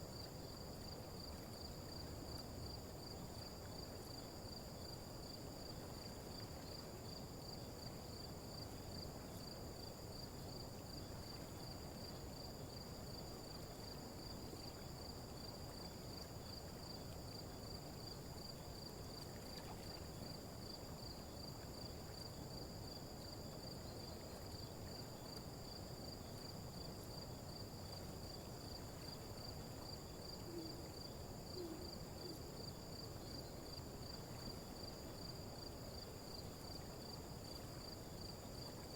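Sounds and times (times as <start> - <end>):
insects chirring in a trill: 0.0 - 38.9.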